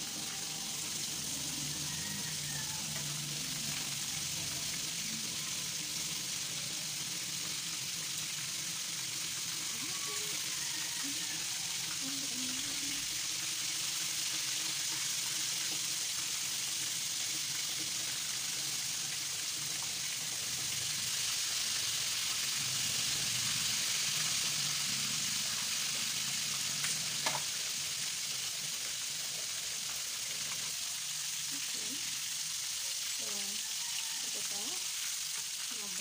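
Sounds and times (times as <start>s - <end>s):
chicken deep-frying in oil: 0.0s - 36.0s.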